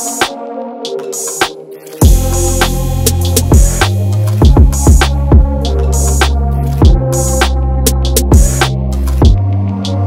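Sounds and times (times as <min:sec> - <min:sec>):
drum-machine beat music: 0:00.0 - 0:10.0.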